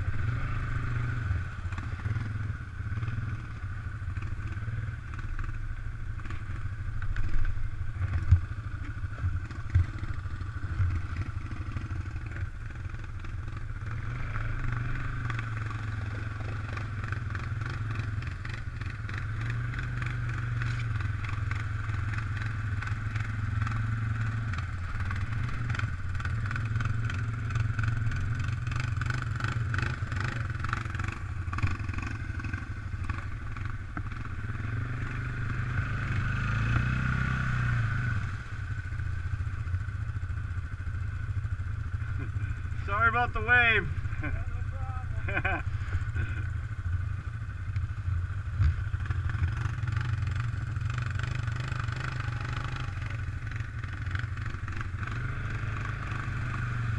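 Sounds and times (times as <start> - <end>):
atv engine running: 0.0 - 56.9
quad driving through water: 9.2 - 56.9.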